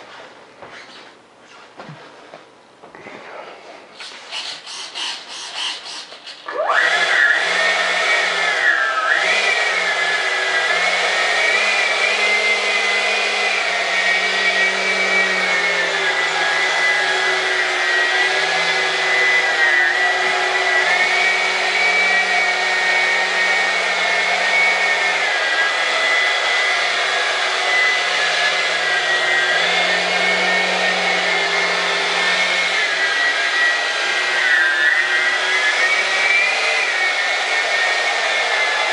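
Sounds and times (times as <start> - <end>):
electric ducted fan whine: 6.5 - 38.9.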